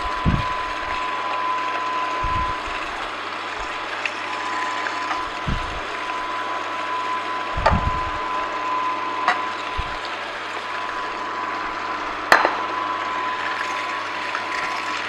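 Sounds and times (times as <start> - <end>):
juicer humming: 0.0 - 15.0.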